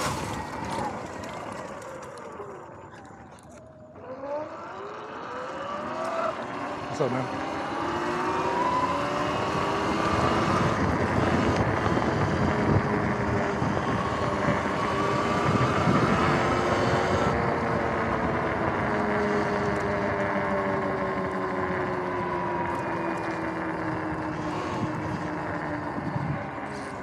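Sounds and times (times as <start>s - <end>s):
wind buffeting microphone: 0.0s - 3.7s, 7.2s - 27.0s
electric motor whining: 0.0s - 27.0s.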